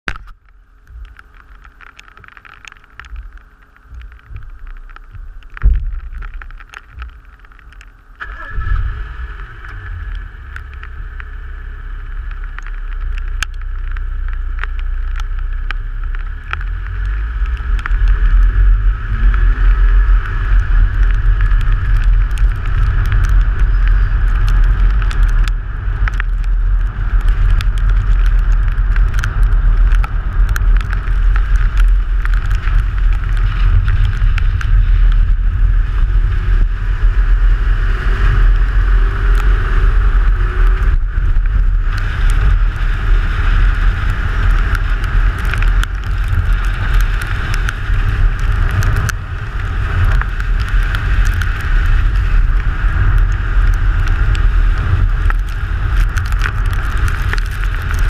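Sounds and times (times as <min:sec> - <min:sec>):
rally car engine rumble: 0:00.0 - 0:58.0.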